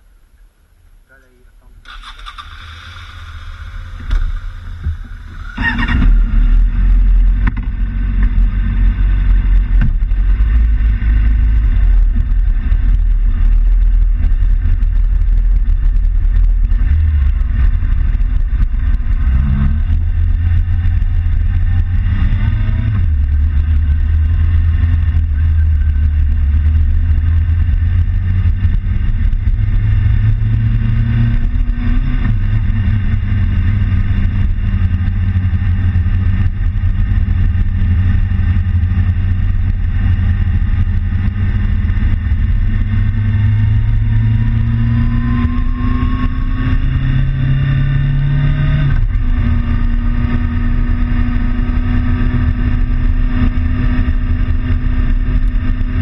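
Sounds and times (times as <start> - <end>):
motorcycle engine revving: 1.7 - 56.0
wind rumble on microphone: 3.2 - 56.0.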